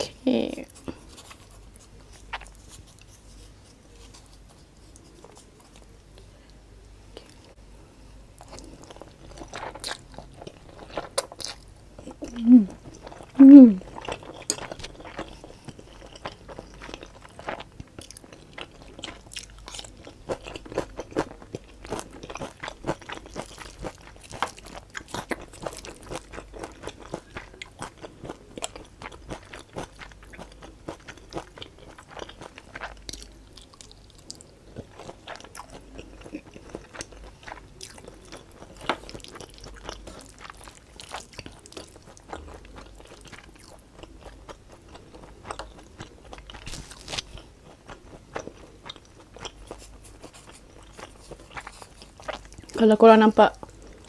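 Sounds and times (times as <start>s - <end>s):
chewing noodles: 0.7s - 6.3s, 8.4s - 52.8s.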